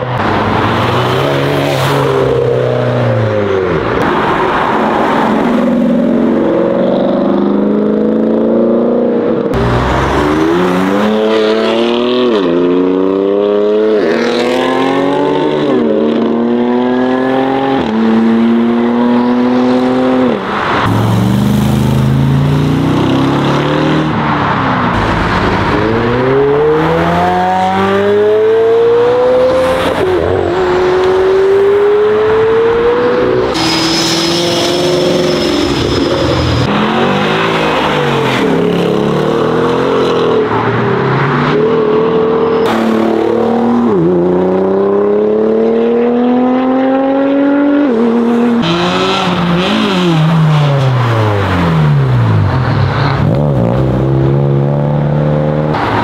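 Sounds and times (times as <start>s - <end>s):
car engines accelerating hard: 0.0s - 56.0s.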